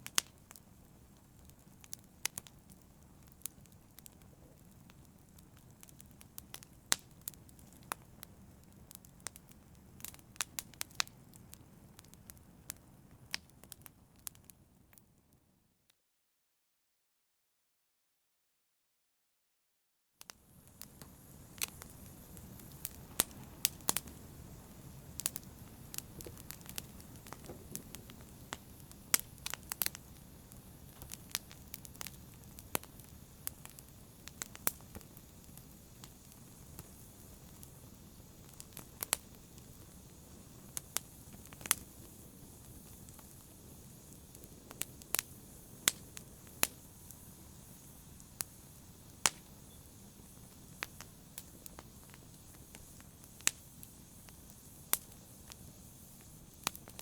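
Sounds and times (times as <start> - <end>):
open fire crackling: 0.0 - 15.4, 20.2 - 57.0.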